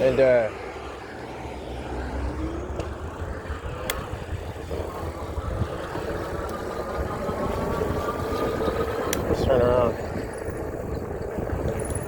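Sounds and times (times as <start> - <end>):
wind and road noise: 0.0 - 12.0
electric bike motor whining: 0.6 - 12.0.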